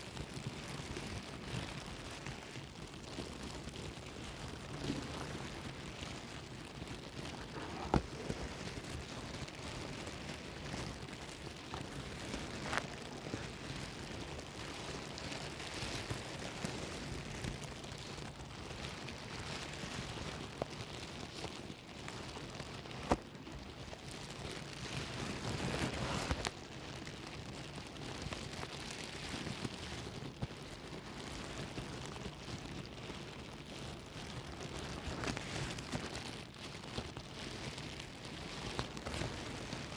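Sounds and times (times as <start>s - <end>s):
plastic bag rustling: 0.0s - 39.9s.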